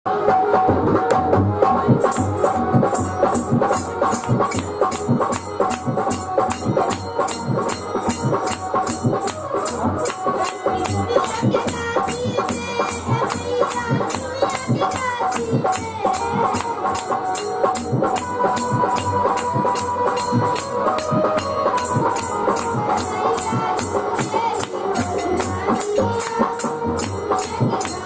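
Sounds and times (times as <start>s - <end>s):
drums: 0.1s - 28.0s
held melody line: 0.1s - 28.0s
rattling hand percussion: 1.6s - 28.0s.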